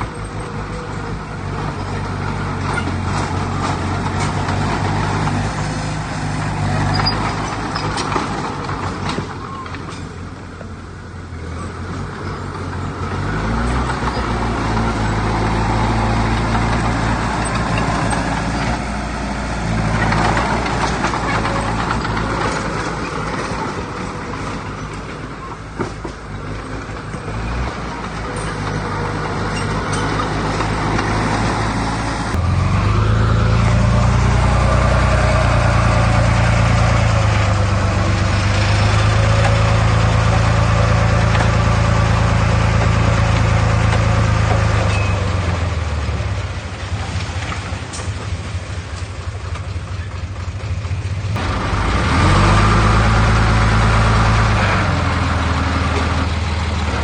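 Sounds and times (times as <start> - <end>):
heavy diesel engines under load: 0.0 - 57.0.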